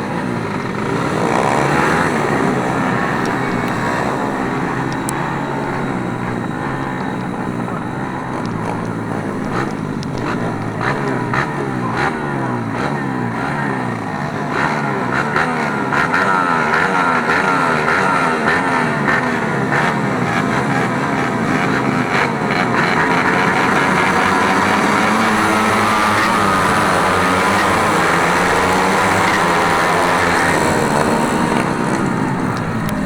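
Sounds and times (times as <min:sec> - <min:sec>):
small racing engines revving: 0:00.0 - 0:33.0.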